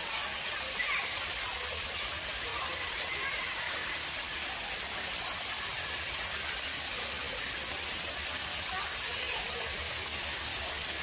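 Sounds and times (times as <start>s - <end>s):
water splashing in a pond: 0.0s - 11.0s.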